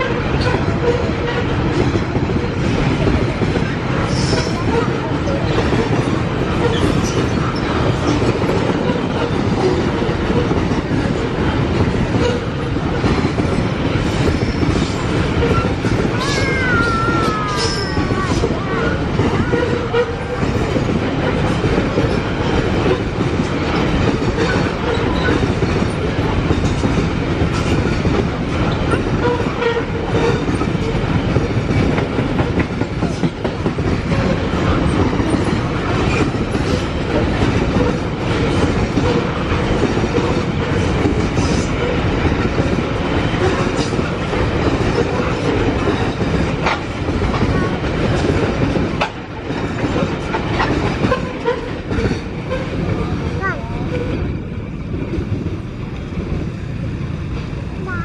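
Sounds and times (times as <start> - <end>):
train wheels rumbling on track: 0.0 - 58.0
wheels clickety-clack over rails: 0.0 - 58.0.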